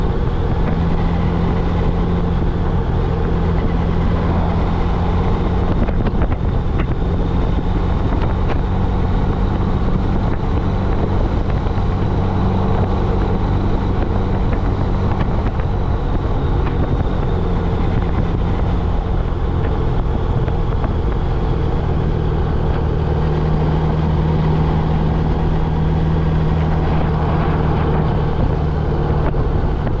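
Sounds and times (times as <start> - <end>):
motorcycle engine cruising: 0.0 - 30.0
wind and road noise: 0.0 - 30.0.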